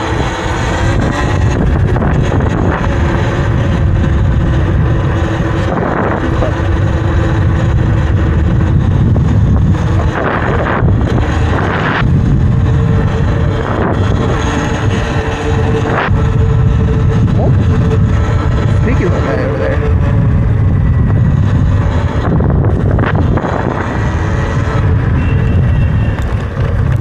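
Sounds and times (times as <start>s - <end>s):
electric motor whine: 0.0s - 27.0s
wind rushing over microphone: 0.0s - 27.0s.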